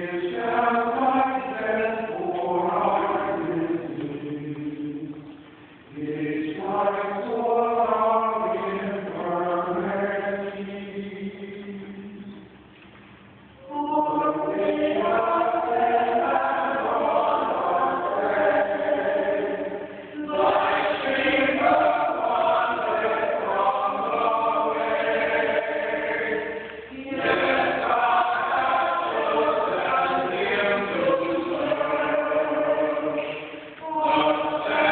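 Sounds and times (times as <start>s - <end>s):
choir singing a hymn: 0.0s - 5.2s, 5.9s - 12.4s, 13.6s - 34.9s.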